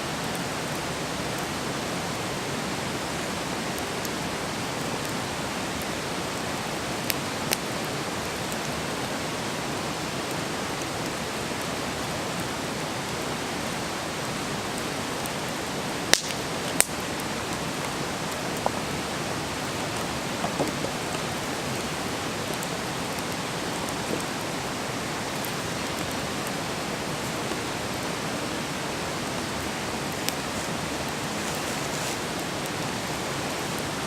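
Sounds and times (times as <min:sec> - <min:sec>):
campfire hissing: 0:00.0 - 0:34.0
burning wood crackling and popping: 0:00.1 - 0:34.0.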